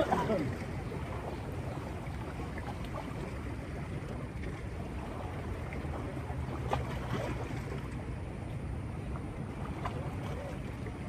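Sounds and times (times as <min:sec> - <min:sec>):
low rumble of wind and water: 0:00.0 - 0:11.0.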